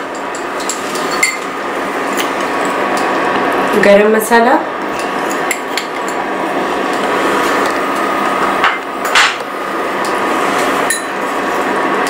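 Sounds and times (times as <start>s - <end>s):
cooling fan whirring: 0.0s - 12.0s.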